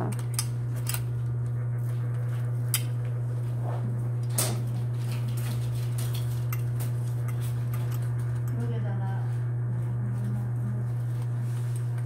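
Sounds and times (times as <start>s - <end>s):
machine motor humming: 0.0s - 12.0s.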